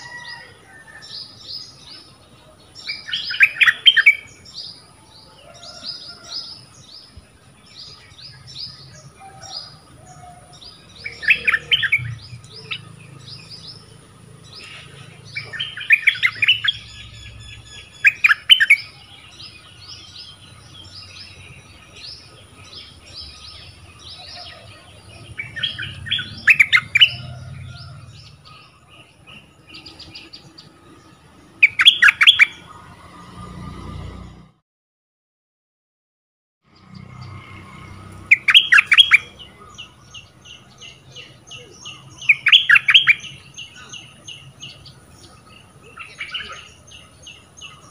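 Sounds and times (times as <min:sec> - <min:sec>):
bird singing in bursts: 0:00.0 - 0:33.0, 0:36.7 - 0:47.9.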